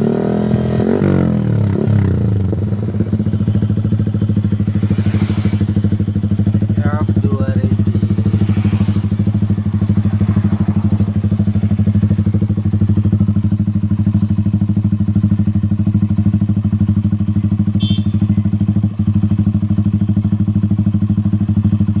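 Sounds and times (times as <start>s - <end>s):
motorcycle engine idling: 0.6s - 22.0s.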